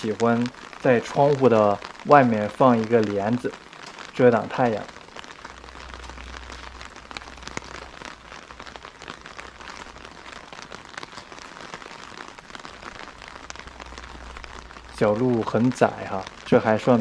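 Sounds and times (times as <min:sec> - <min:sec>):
rain falling on wet street: 0:00.0 - 0:17.0.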